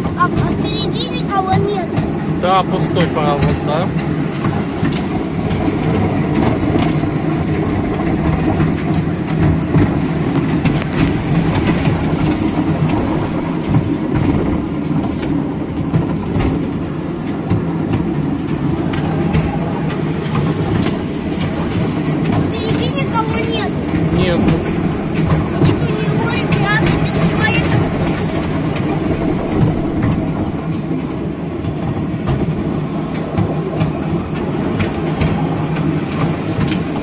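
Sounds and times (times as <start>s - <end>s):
ride train rumbling on track: 0.0s - 37.0s.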